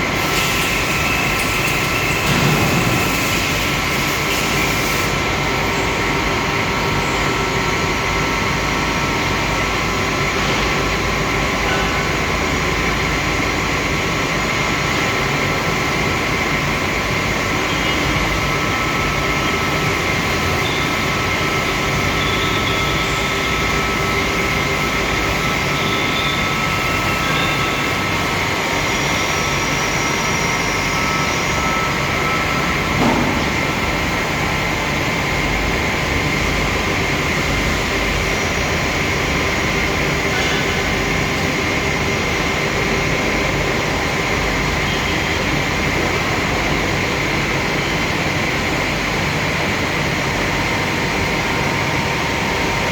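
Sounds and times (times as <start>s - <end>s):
machine running with whine: 0.0s - 52.9s.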